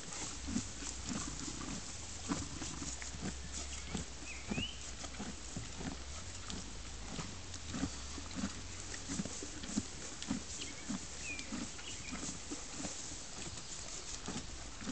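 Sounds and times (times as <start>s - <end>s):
horse chewing feed: 0.0s - 14.9s.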